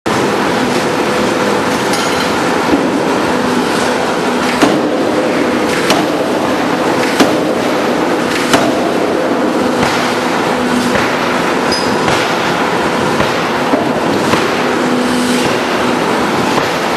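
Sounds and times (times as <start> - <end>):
loud mechanical din with hum: 0.0 - 16.9.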